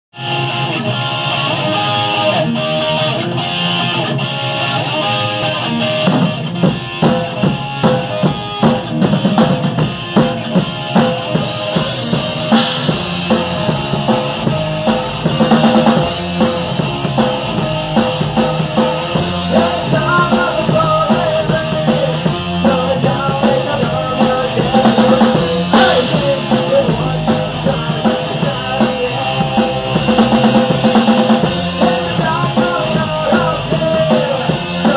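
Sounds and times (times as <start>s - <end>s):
bass guitar: 0.1s - 34.9s
electric guitars: 0.1s - 34.9s
drum kit beat: 0.2s - 34.9s.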